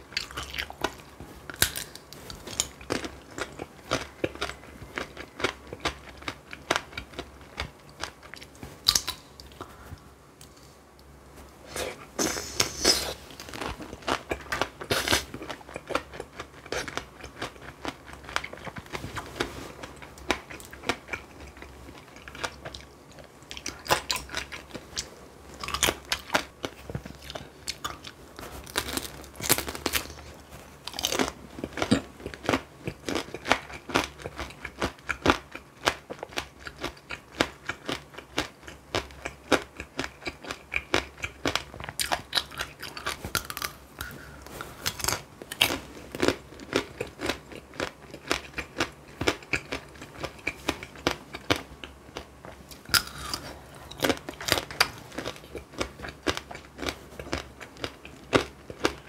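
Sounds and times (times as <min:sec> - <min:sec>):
sugar shell crunching in chewing: 0:00.1 - 0:09.8, 0:12.6 - 0:59.0.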